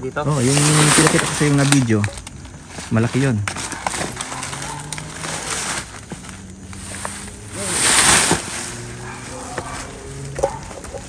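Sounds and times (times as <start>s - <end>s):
rustling in dry leaves: 0.0s - 11.0s.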